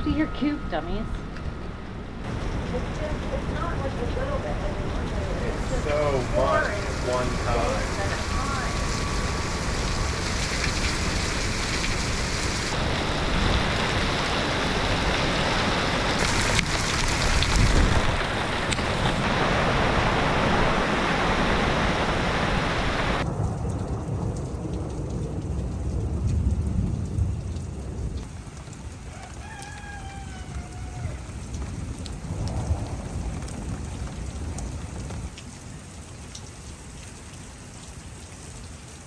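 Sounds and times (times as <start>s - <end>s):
thunder rumbling: 0.0s - 35.5s
heavy rain pouring: 2.2s - 39.0s.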